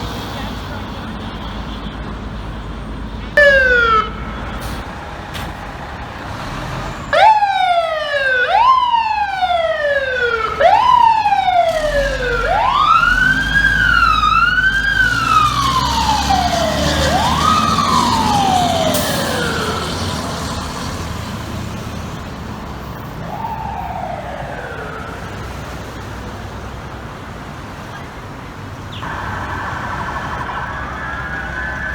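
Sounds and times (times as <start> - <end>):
street traffic: 0.0 - 31.9
fire truck siren: 2.9 - 26.9, 29.0 - 31.9.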